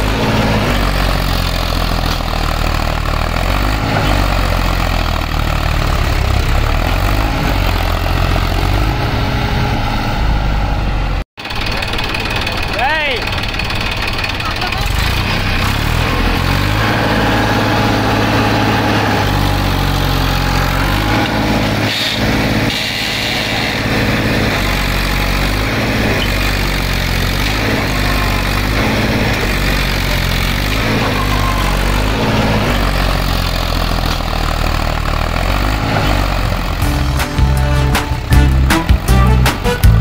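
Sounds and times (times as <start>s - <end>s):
tractor engine running at low revs: 0.0s - 40.0s.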